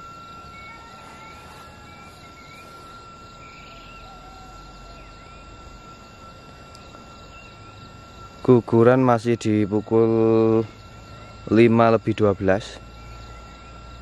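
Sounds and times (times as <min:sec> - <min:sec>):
crickets trilling: 0:00.0 - 0:14.0
outdoor background noise: 0:00.0 - 0:14.0.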